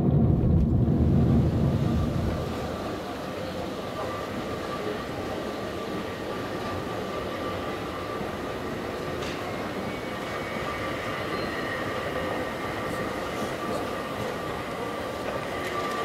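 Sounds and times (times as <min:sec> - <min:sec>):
escalator hum and rumble: 0:00.0 - 0:16.0
terminal hall background noise: 0:00.0 - 0:16.0.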